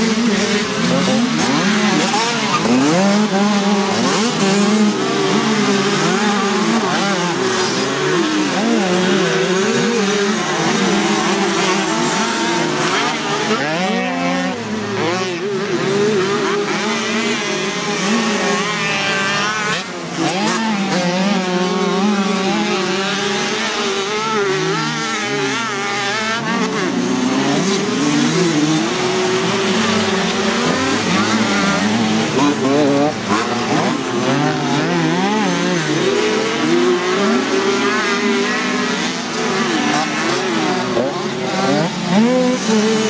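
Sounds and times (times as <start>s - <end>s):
moped engines revving: 0.0s - 43.0s.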